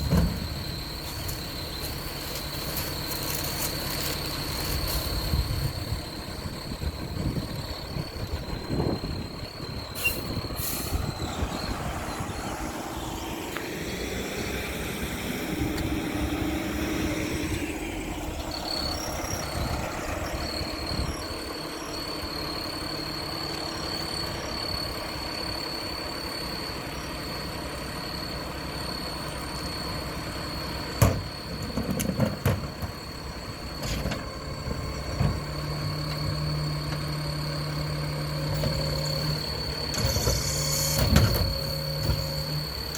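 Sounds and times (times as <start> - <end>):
garbage truck diesel engine: 0.0 - 42.9.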